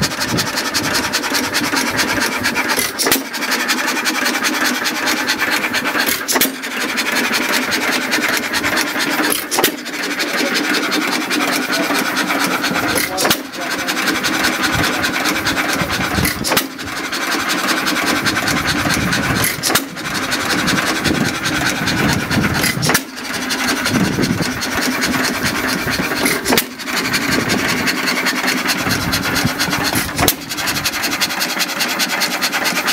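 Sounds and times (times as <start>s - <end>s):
engine sharp knock: 0.0s - 32.9s
stationary engine clattering: 0.0s - 32.9s.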